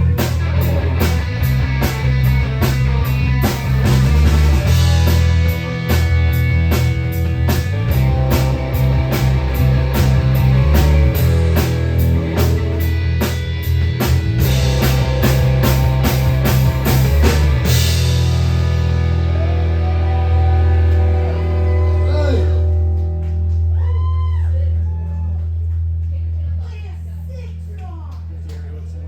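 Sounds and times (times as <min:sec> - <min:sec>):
rock song with drums and guitar: 0:00.0 - 0:24.0.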